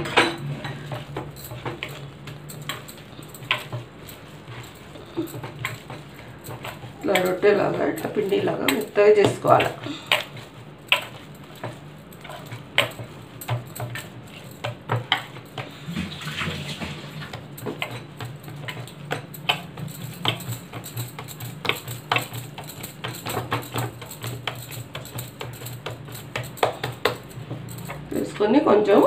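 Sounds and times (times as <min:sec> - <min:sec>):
hand kneading soft mixture: 0:00.0 - 0:29.0.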